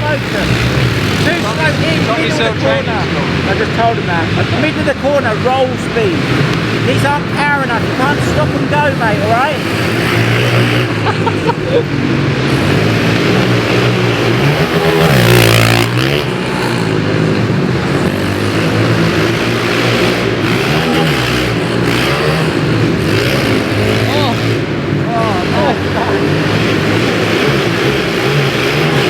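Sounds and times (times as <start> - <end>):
motorbike engines revving: 0.0 - 29.0
motorbike passing close by: 0.0 - 29.0.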